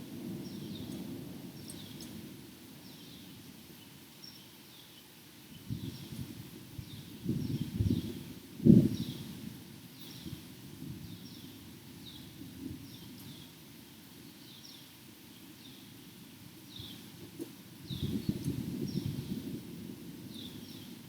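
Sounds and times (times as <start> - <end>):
rain: 0.0 - 21.0.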